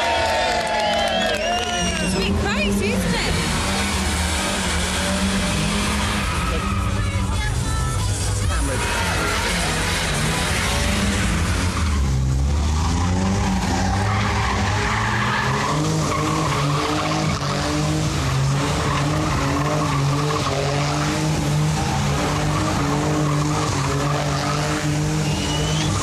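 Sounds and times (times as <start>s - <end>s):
car engine revving high: 0.0s - 26.0s
tyres squealing on tarmac: 0.8s - 26.0s.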